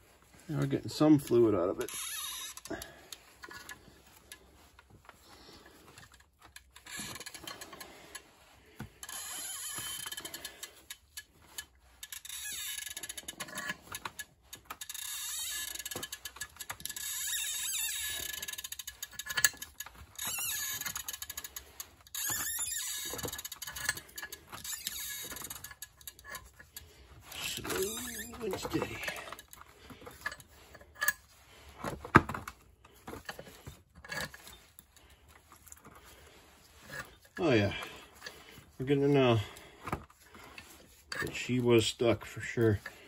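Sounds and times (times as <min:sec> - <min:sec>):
clamp screw creaking and squeaking: 0:01.2 - 0:03.9, 0:05.9 - 0:08.2, 0:09.0 - 0:42.9.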